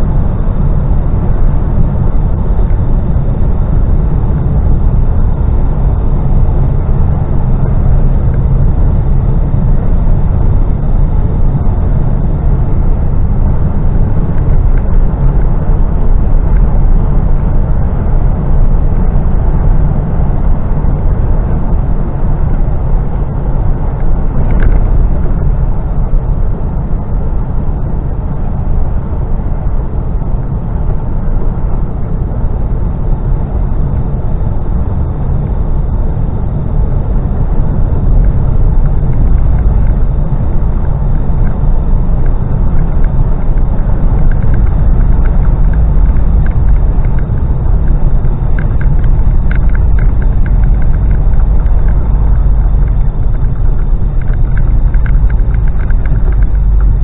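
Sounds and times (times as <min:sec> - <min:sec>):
truck engine drone: 0:00.0 - 0:57.0
tyre and road noise: 0:00.0 - 0:57.0.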